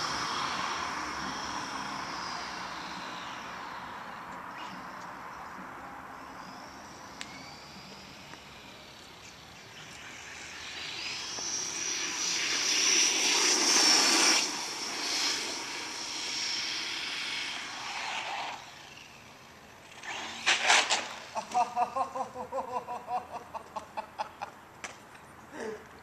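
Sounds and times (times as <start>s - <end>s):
model truck engine high whine: 0.0s - 21.6s.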